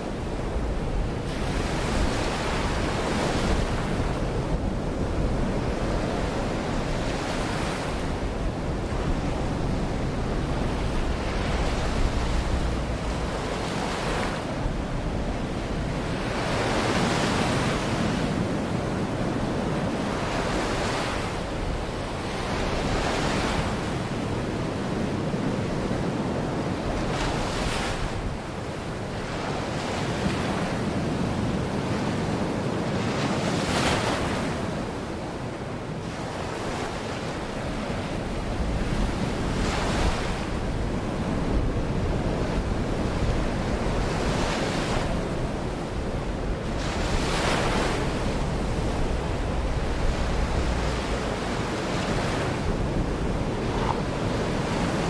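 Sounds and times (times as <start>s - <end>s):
waves washing onto beach: 0.0s - 55.0s
wind rumbling on microphone: 0.0s - 55.0s.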